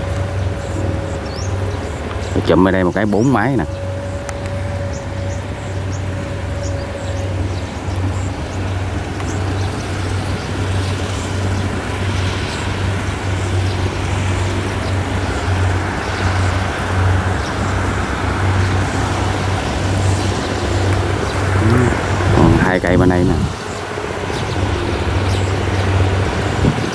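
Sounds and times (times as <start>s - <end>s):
combine harvesters droning: 0.0s - 26.9s.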